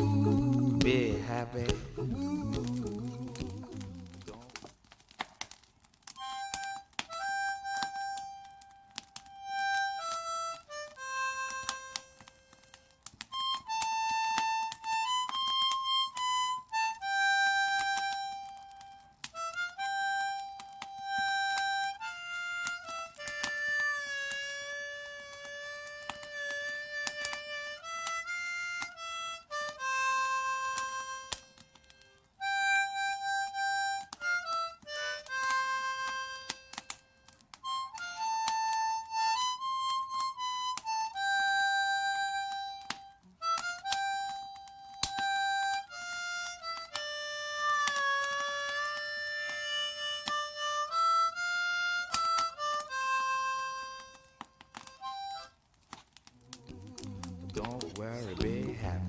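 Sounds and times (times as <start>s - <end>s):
solo harmonica melody: 0.0s - 2.5s, 6.1s - 56.3s.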